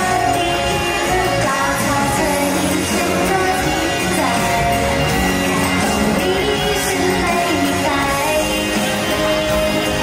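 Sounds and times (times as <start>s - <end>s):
pop backing track through speakers: 0.0s - 10.0s
woman singing into microphone: 0.0s - 10.0s.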